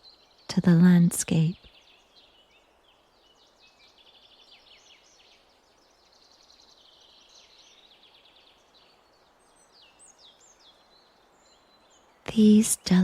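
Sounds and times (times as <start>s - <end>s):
small birds chirping and trilling: 0.0s - 13.0s
soft steady hiss: 0.0s - 13.0s.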